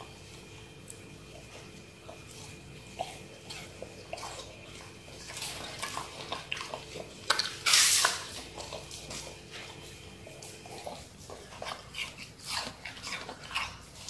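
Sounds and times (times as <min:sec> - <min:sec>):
dog chewing and slurping: 0:00.0 - 0:14.0.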